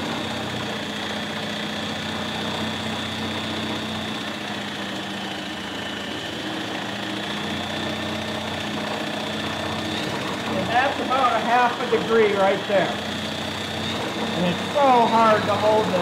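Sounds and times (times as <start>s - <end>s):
drill motor whine: 0.0s - 16.0s
engine turning hum: 0.0s - 16.0s.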